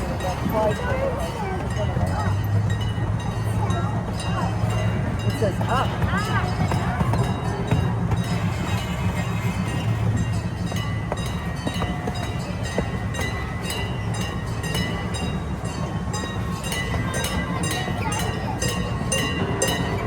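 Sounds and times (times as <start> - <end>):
miniature train rumbling: 0.0 - 20.0.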